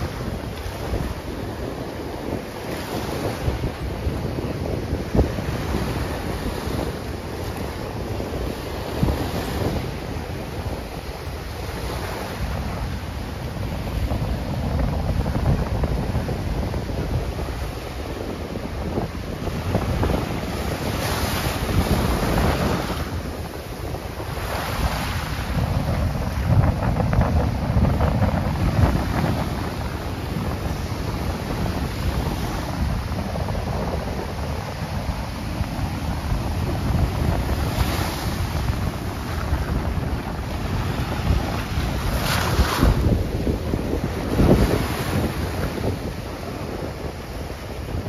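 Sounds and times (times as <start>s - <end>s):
small waves breaking on shore: 0.0s - 48.0s
wind buffeting microphone: 0.0s - 48.0s.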